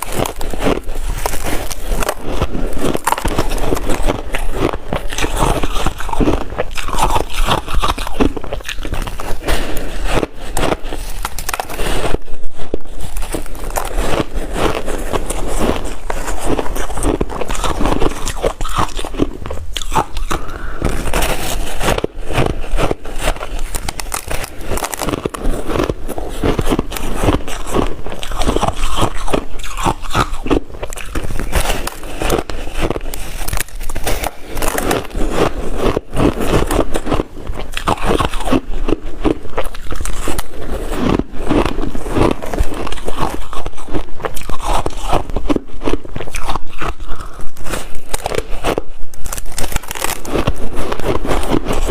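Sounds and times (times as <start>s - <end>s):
crunching and chewing shaved ice: 0.0s - 51.9s.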